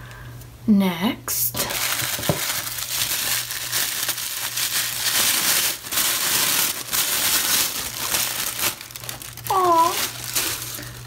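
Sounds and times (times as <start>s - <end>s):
tissue paper crinkling: 1.6s - 11.0s.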